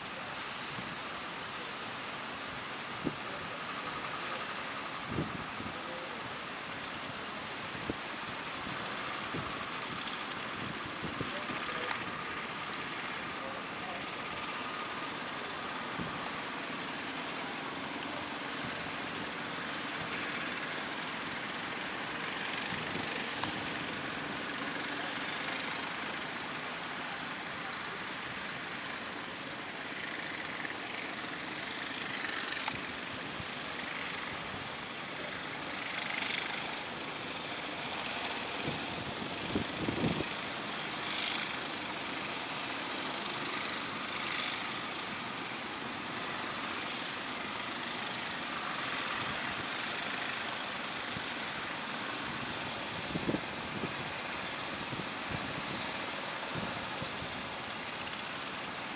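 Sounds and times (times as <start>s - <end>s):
low boat engine drone: 0.0s - 58.9s
wind: 0.0s - 58.9s.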